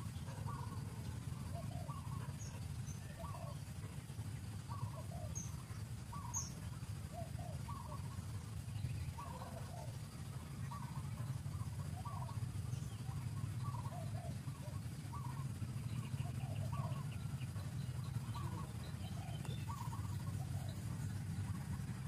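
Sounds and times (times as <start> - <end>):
bird chirping: 0.0 - 22.0
steady low rumble: 0.0 - 22.0.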